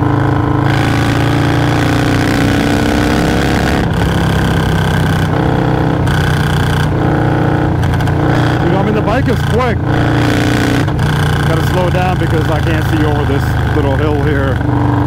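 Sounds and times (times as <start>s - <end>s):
motorcycle engine under power: 0.0s - 15.0s.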